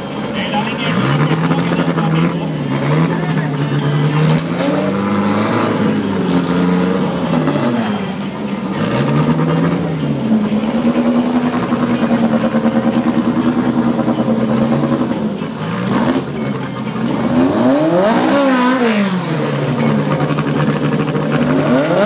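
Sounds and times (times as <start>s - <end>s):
drag car engine revving: 0.0s - 22.0s.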